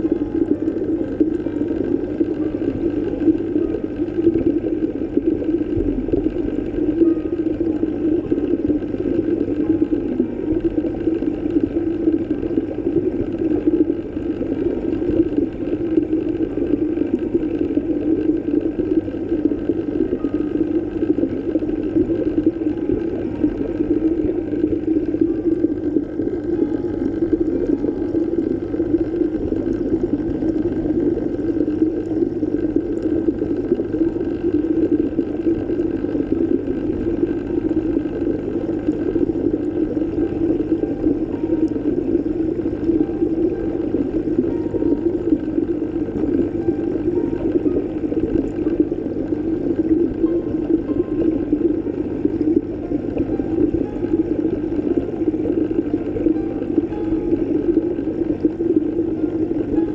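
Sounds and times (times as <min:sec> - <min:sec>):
underwater rumbling water: 0:00.0 - 0:59.9.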